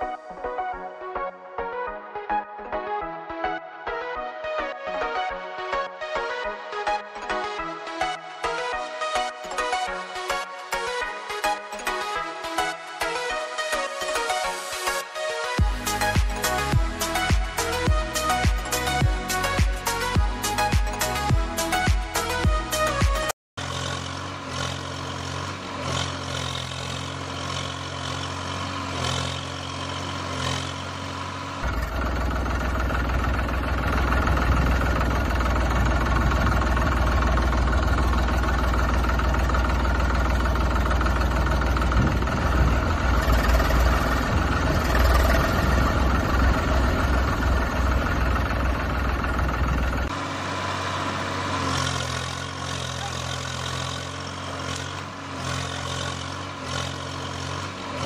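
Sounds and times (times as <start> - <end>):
tractor engine: 4.8 - 58.0.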